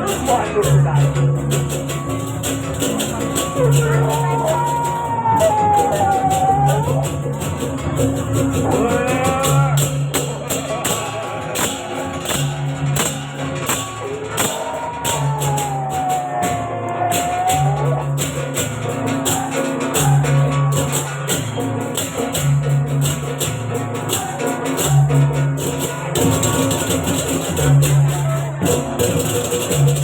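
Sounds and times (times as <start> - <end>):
clashing metal percussion: 0.0 - 30.0.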